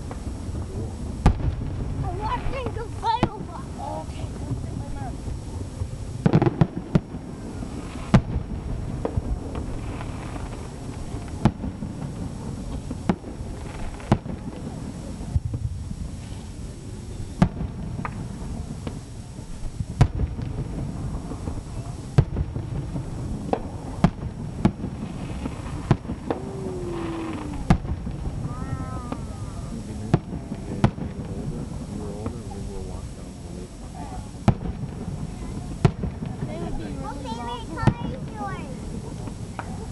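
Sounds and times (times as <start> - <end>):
distant fireworks booms: 0.0 - 39.9
low background rumble: 0.0 - 39.9.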